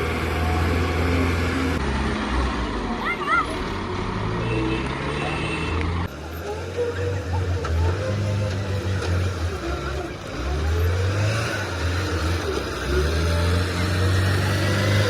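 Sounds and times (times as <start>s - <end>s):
vehicle engine revving: 0.0s - 3.0s, 3.6s - 15.0s.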